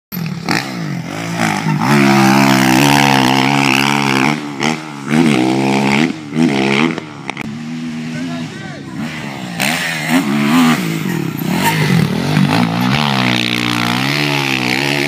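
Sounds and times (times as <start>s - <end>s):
dirt bike engine revving: 0.1s - 15.0s.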